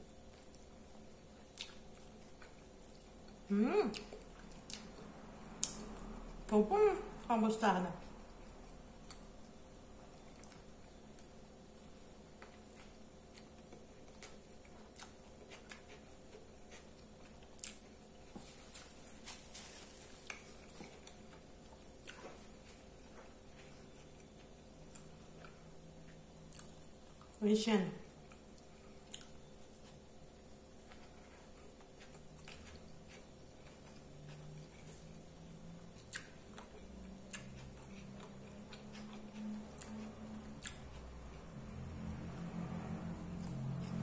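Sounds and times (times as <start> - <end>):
faint chewing: 0.0 - 6.6, 8.0 - 27.4, 28.0 - 44.0.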